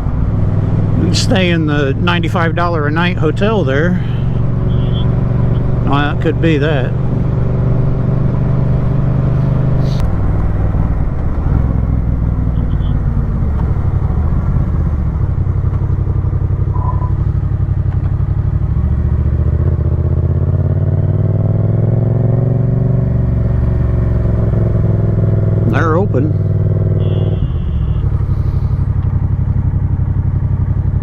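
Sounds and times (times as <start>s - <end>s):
motorcycle engine running: 0.0s - 31.0s
road noise: 0.0s - 31.0s.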